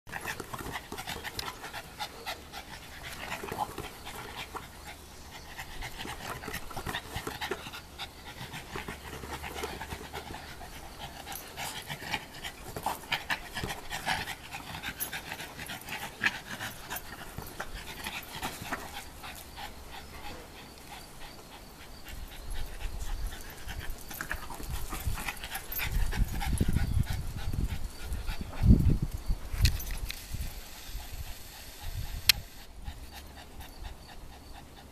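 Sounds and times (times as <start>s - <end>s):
dog panting: 0.1s - 29.1s, 30.6s - 34.9s.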